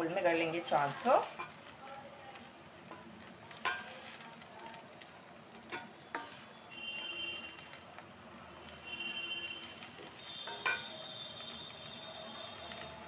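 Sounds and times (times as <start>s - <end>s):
faint sizzle: 0.0s - 13.0s
wooden spatula scraping wok: 0.0s - 13.0s.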